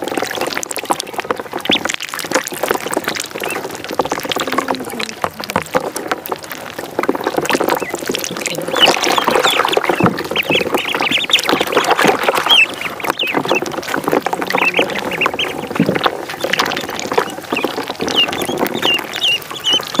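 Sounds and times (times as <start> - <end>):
ducklings peeping: 0.0 - 20.0.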